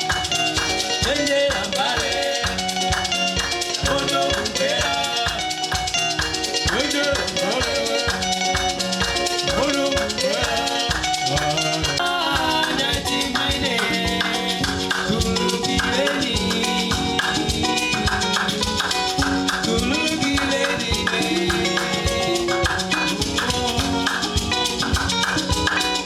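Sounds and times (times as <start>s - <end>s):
upbeat instrumental band music: 0.0s - 26.0s.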